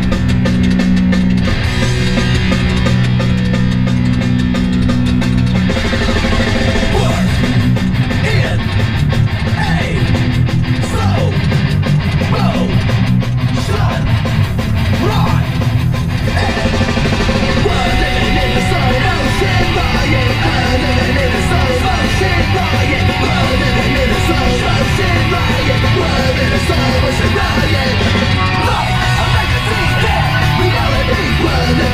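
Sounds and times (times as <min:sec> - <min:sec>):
loud rock music: 0:00.0 - 0:31.9.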